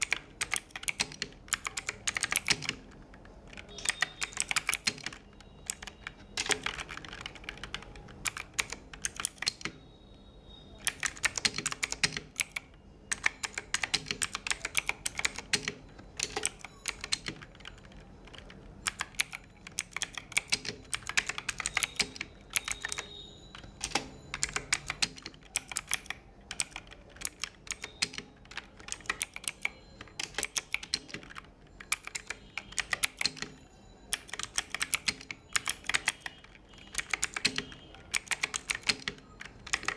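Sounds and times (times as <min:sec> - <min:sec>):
mechanical keyboard typing: 0:00.0 - 0:09.8, 0:10.7 - 0:39.9.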